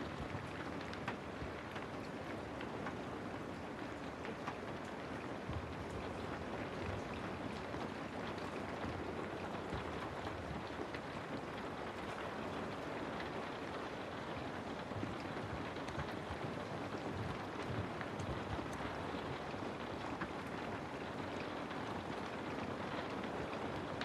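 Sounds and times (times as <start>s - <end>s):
raindrop ticks: 0.0s - 24.0s
steady rain hiss: 0.0s - 24.0s.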